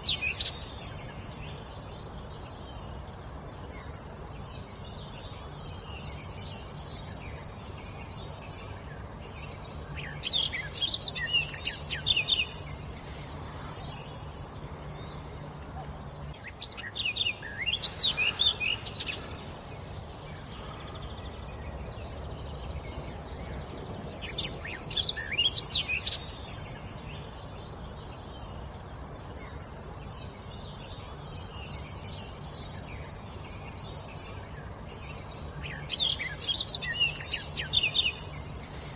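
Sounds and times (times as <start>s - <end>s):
songbird singing: 0.0s - 38.9s
steady background hiss: 0.0s - 38.9s.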